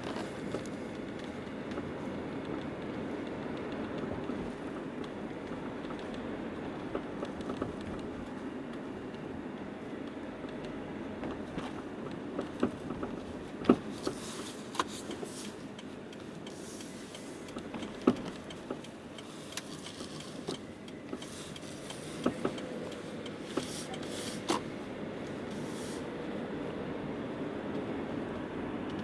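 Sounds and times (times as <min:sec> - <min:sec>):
road noise while driving: 0:00.0 - 0:29.0.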